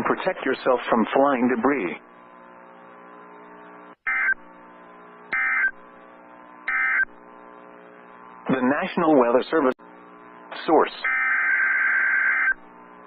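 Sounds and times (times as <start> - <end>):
radio hum: 0.0 - 13.0.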